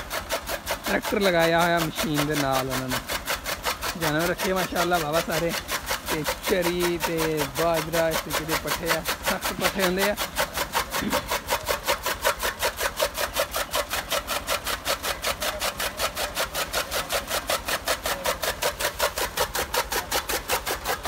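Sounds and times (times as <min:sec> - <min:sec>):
chaff cutter cutting strokes: 0:00.0 - 0:21.0
tractor engine running: 0:00.0 - 0:21.0.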